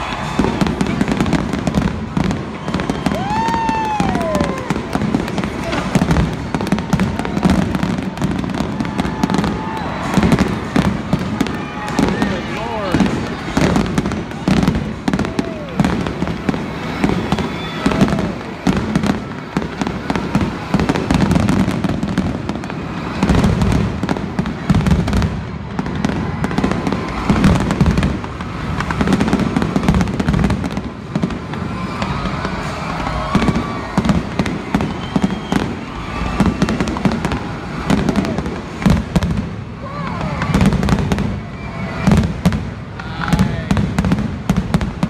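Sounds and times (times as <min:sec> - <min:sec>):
fireworks booming and crackling: 0:00.0 - 0:45.0.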